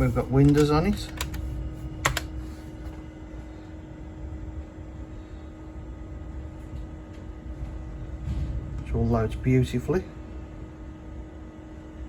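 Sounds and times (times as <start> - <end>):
computer fan and drives whirring: 0.0 - 12.0.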